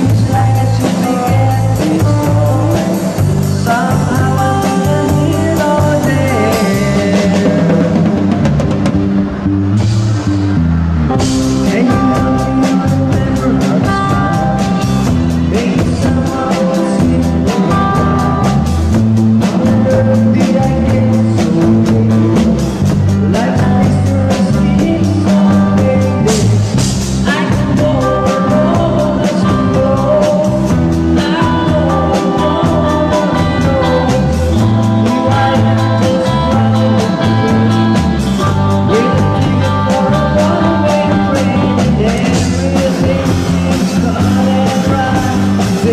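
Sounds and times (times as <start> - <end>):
man singing into microphone: 0.0 - 8.4, 11.5 - 45.9
drum kit with cymbals: 0.0 - 45.9
live rock band playing: 0.0 - 45.9.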